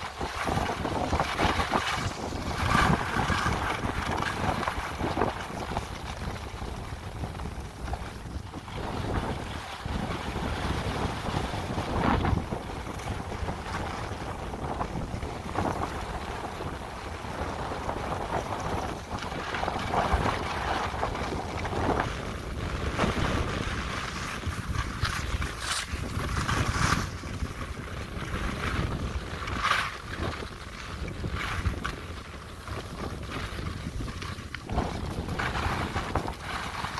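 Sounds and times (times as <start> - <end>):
skis scraping on snow: 0.0 - 36.9
wind rushing over microphone: 0.0 - 36.9.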